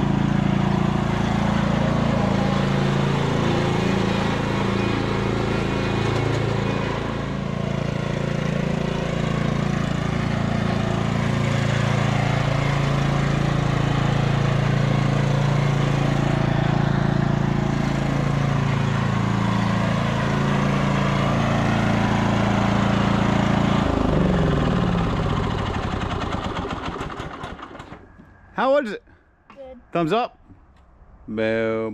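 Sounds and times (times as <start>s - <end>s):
riding lawn tractor engine running: 0.0s - 28.6s.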